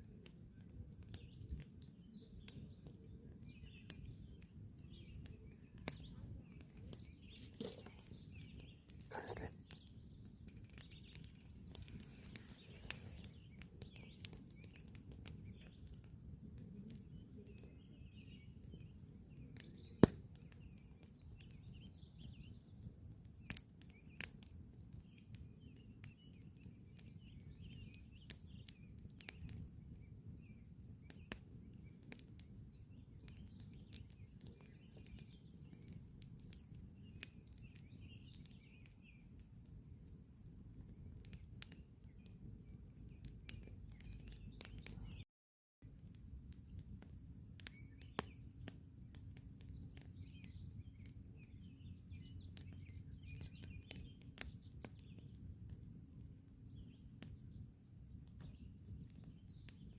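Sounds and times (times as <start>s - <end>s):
campfire crackling and popping: 0.0s - 45.2s, 45.8s - 59.9s
birds chirping: 1.0s - 24.4s, 32.6s - 45.2s, 46.5s - 59.9s.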